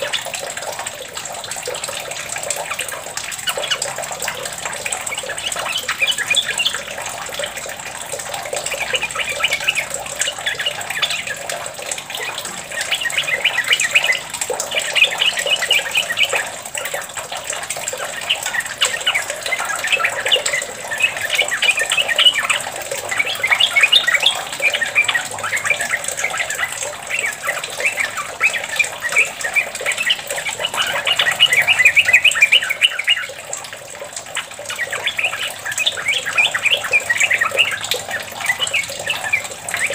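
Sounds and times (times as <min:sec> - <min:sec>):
bulbul singing chattering phrases: 0:00.0 - 0:39.9.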